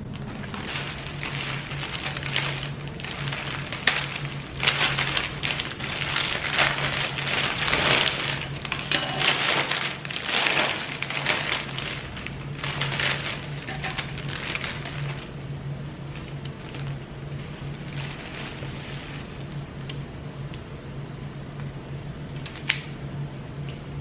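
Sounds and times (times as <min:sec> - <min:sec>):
cellophane crinkling and rustling: 0:00.0 - 0:20.0.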